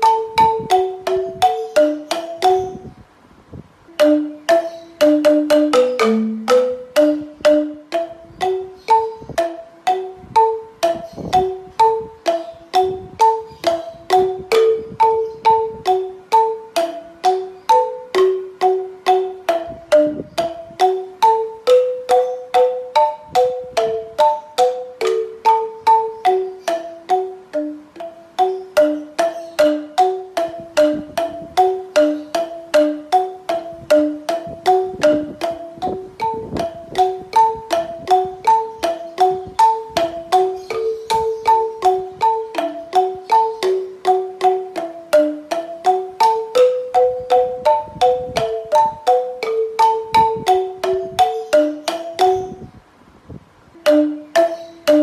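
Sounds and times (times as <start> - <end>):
melody of short fading notes: 3.9 - 52.6.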